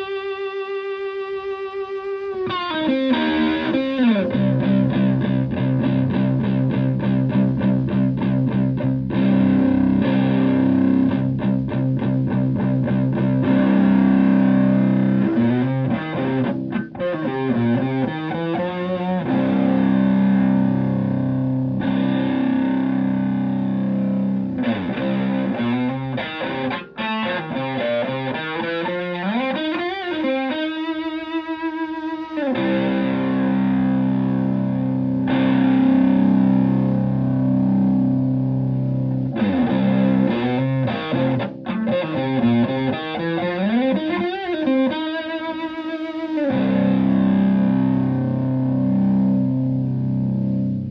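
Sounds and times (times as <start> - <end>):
distorted electric guitar chords: 0.0 - 50.9.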